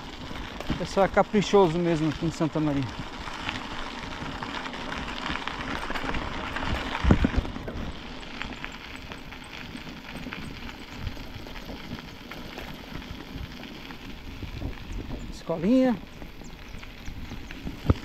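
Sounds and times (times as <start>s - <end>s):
bike rattling clicks: 0.0s - 18.0s
bike tyre noise on rough road: 0.0s - 18.0s.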